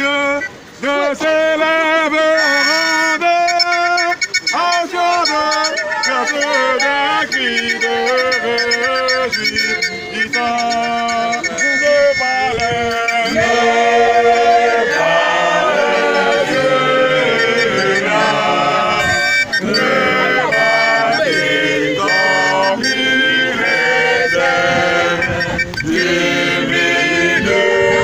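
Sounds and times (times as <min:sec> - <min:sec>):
choir singing a hymn: 0:03.9 - 0:28.0.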